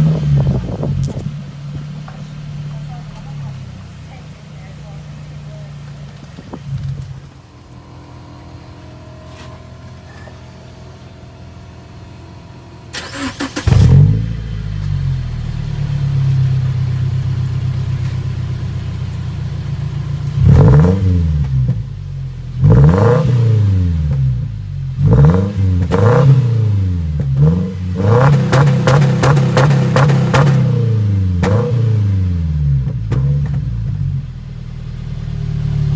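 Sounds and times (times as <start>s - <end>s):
engine revving: 0.0s - 7.3s, 12.9s - 18.2s, 19.6s - 35.9s
car engine starting and idling: 0.0s - 35.9s.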